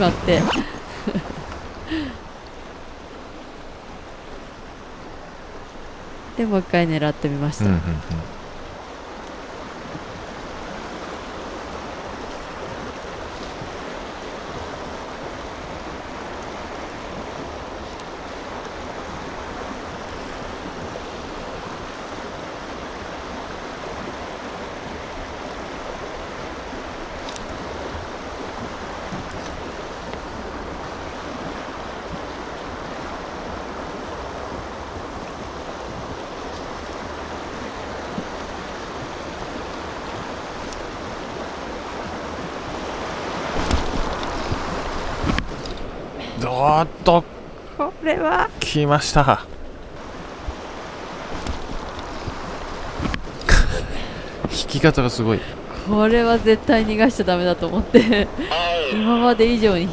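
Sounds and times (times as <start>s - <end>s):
stream rushing over rocks: 0.0s - 47.8s, 48.5s - 56.5s, 58.2s - 59.9s.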